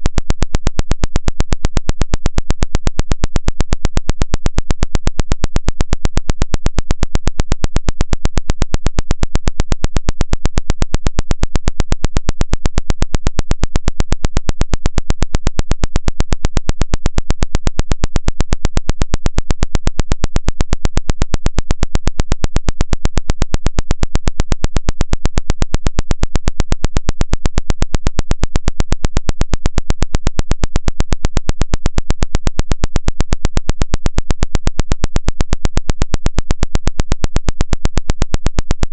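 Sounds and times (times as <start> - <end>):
rapid synthetic vibration pulses: 0.0 - 38.9.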